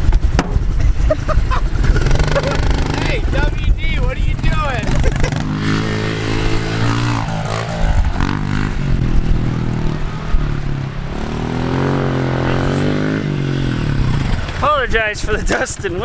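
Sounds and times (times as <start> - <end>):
vehicle engine running: 0.0 - 16.0
wind buffeting microphone: 0.0 - 16.0.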